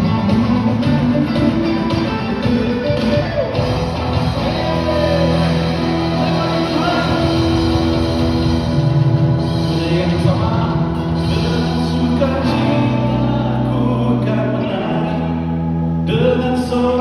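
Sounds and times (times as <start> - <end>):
worship band playing: 0.0 - 17.0.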